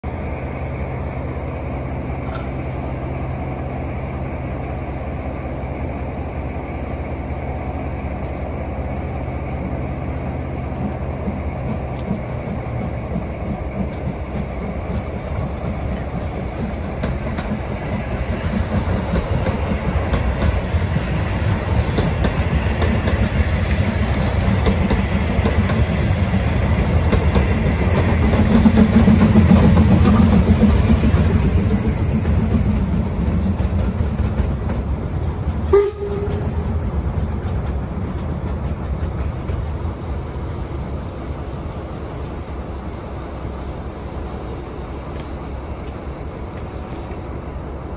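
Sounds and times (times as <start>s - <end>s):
train wheels clattering over rails: 8.2s - 47.9s.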